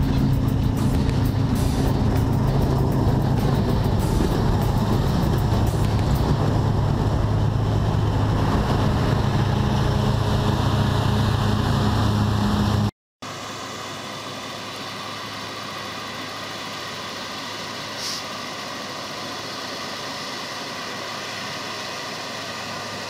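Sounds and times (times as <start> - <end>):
combine harvester engine humming: 0.0 - 23.0
distant farm machinery drone: 0.0 - 23.0.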